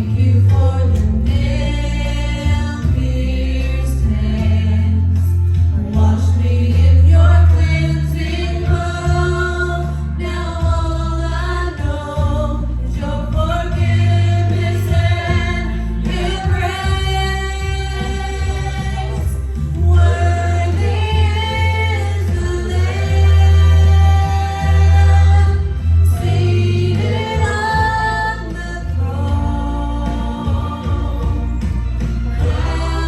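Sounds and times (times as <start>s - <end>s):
group of voices singing: 0.0s - 33.0s
stepping bass line: 0.0s - 33.0s.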